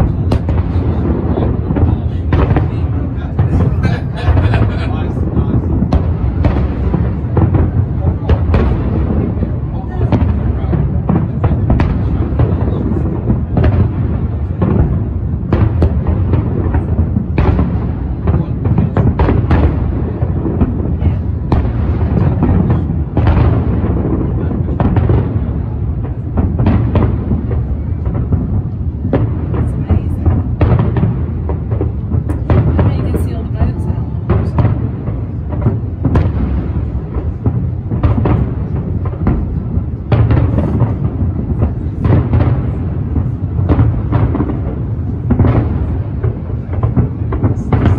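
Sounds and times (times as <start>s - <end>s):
fireworks booming: 0.0s - 47.9s
sharp firework bangs: 0.0s - 47.9s.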